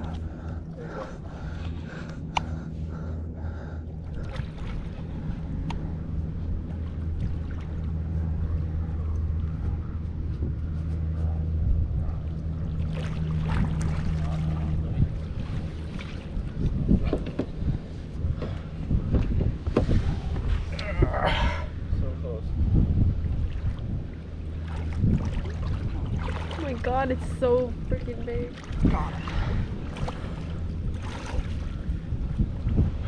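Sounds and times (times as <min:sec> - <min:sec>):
boat motor humming: 0:00.0 - 0:33.0.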